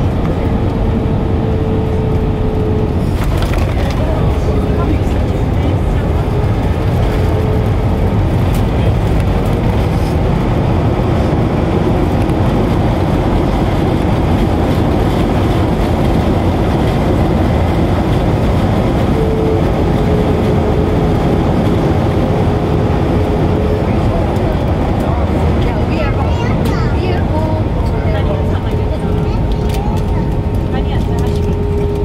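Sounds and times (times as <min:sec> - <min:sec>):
airplane cabin engine rumble: 0:00.0 - 0:32.0.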